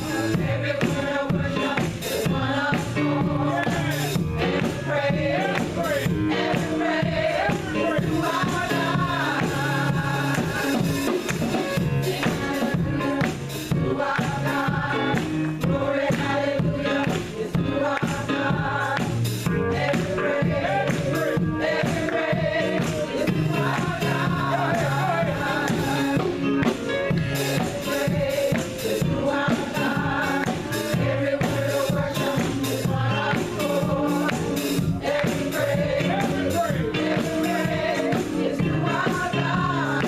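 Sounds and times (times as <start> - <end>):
tambourine and drums beat: 0.0 - 40.0
women's choir singing gospel: 0.0 - 40.0.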